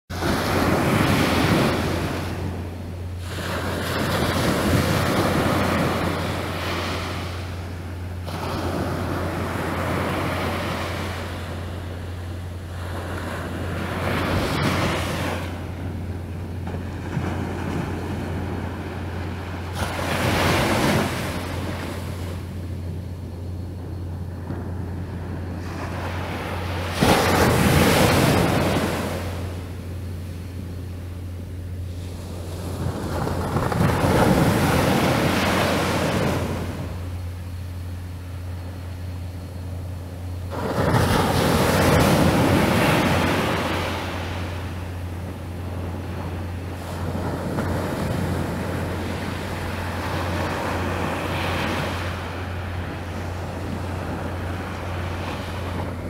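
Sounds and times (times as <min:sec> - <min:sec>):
sea waves washing on shore: 0:00.1 - 0:56.0
steady low hum: 0:00.1 - 0:56.0
wind on microphone: 0:00.1 - 0:56.0.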